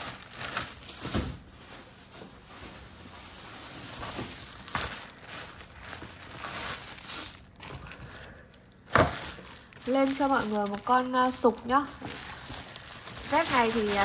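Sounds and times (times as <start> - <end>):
wrapping rustling and crinkling: 0.0 - 14.0.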